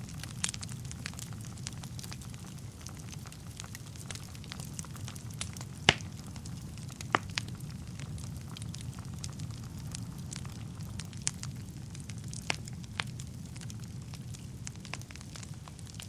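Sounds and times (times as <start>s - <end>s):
fire popping sharply: 0.0s - 16.0s
wood fire crackling: 0.0s - 16.0s.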